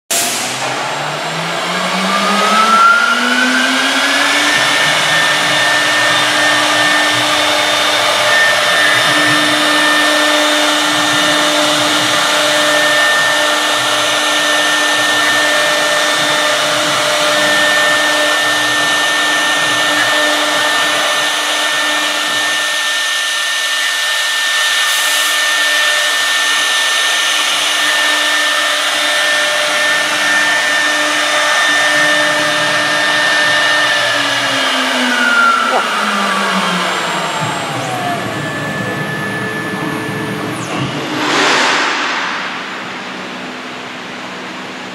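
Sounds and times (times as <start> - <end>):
cnc router spindle whining: 0.2 - 41.5.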